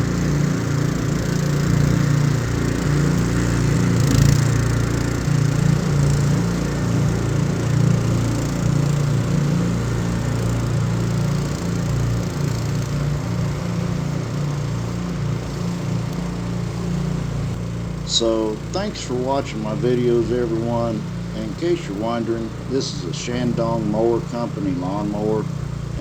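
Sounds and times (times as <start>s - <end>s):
lawnmower engine humming: 0.0s - 26.0s.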